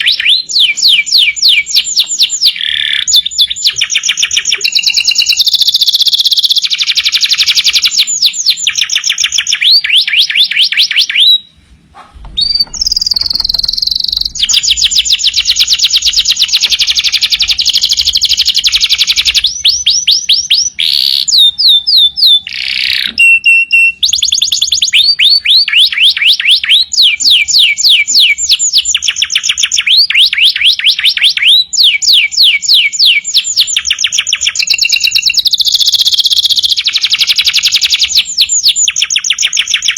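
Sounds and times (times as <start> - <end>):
canary singing rapid trills: 0.0 - 11.6, 12.2 - 39.9.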